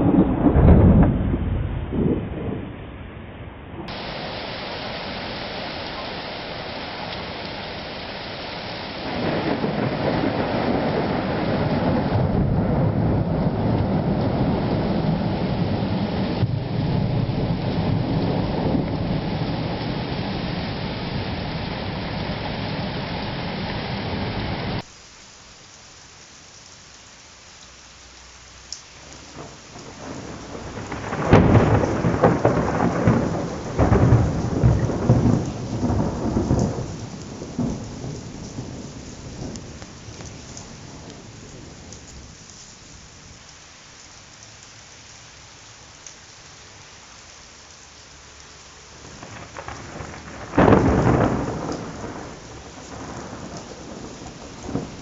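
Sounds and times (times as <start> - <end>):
thunder rumbling: 0.0 - 24.8, 29.0 - 43.4, 49.0 - 55.0
lightning crack: 0.0 - 24.9, 29.1 - 42.4, 49.0 - 55.0
heavy rain: 0.0 - 55.0.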